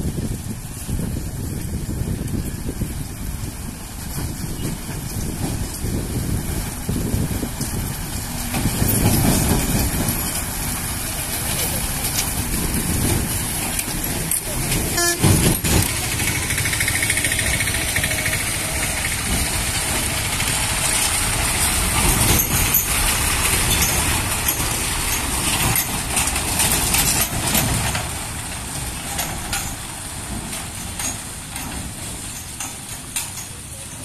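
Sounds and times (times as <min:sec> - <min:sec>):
diesel lorry engine passing: 0:00.0 - 0:34.0
tyres splashing through potholes: 0:00.0 - 0:34.0.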